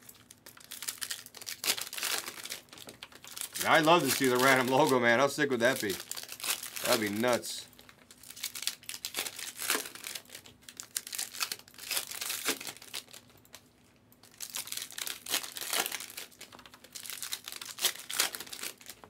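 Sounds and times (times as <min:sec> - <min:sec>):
plastic foil wrappers crinkling: 0:00.0 - 0:19.0.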